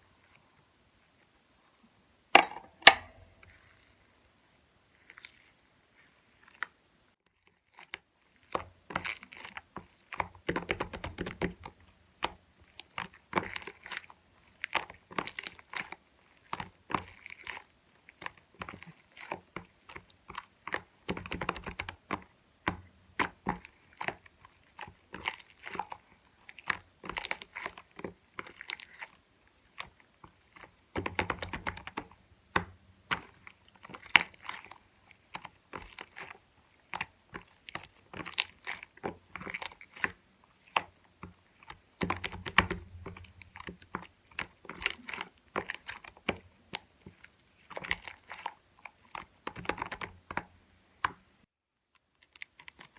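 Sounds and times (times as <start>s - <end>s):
slime squishing and crackling: 7.4s - 51.2s, 52.1s - 52.9s.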